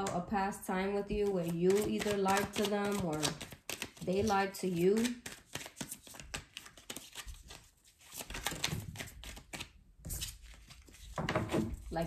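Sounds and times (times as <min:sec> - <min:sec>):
cards being shuffled: 0:01.2 - 0:11.8.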